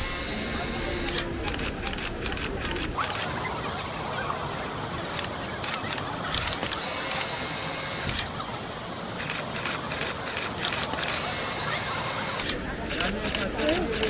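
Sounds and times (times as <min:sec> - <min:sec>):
high hiss bursts: 0:00.0 - 0:03.3, 0:04.7 - 0:12.6
crowd noise: 0:00.0 - 0:14.0
water rushing: 0:00.0 - 0:14.0.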